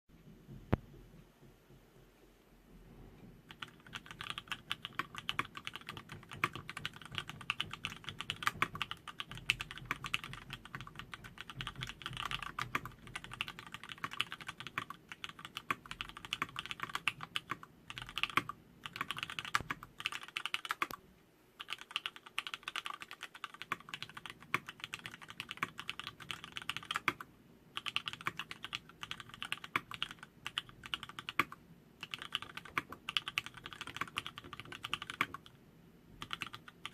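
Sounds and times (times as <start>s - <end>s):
fast typing on mechanical keyboard: 3.5s - 21.0s, 21.6s - 35.5s, 36.2s - 36.9s.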